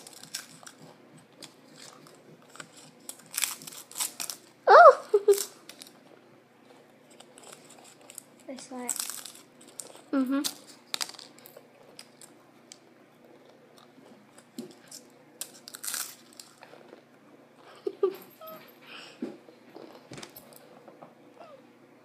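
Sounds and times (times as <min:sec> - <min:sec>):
crackers crunching: 0:00.0 - 0:17.7, 0:19.5 - 0:20.8.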